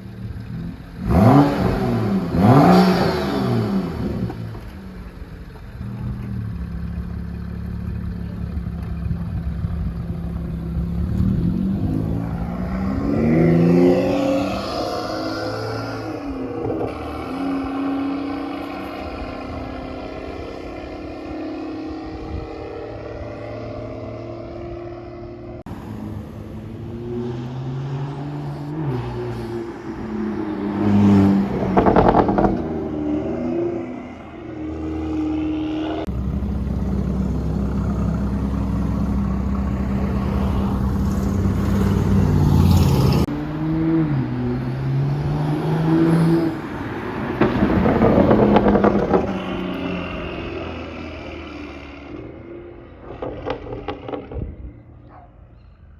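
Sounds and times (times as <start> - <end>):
car engine revving: 0.0 - 55.2.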